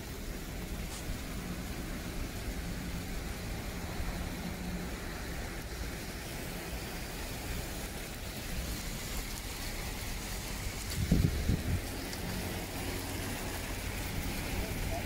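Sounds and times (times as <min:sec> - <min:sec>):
rain on a paved road: 0:00.0 - 0:15.0.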